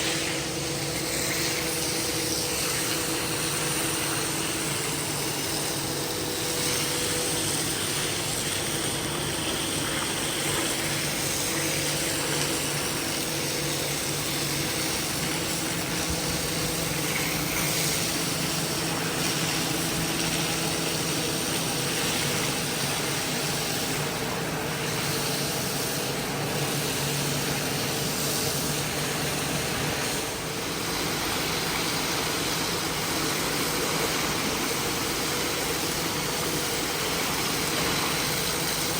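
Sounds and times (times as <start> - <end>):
carpet cleaning machine running: 0.0 - 38.9.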